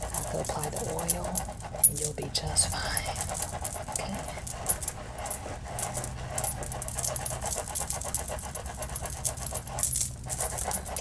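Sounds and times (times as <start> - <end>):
fingers scratching through hair: 0.0 - 11.0.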